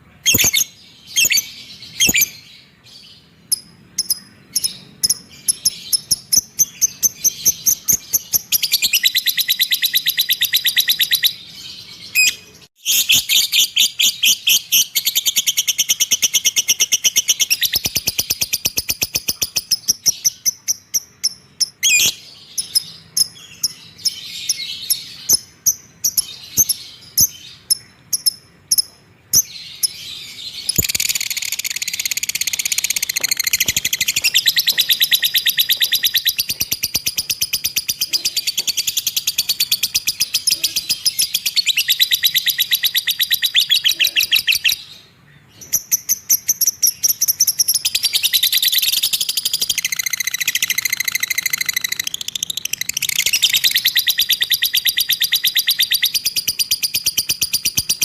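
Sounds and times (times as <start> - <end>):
cage bird chirping and trilling: 0.0 - 58.0.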